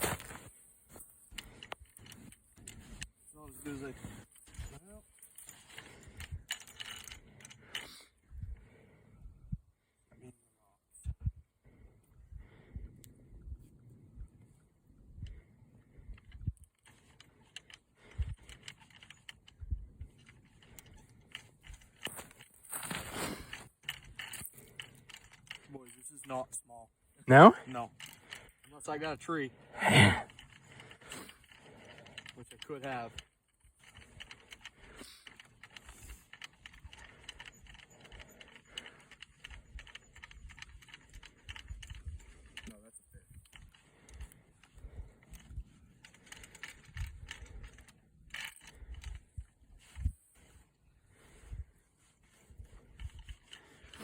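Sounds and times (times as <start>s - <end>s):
gear handling clicks and rattles: 0.0s - 9.0s, 12.7s - 54.0s.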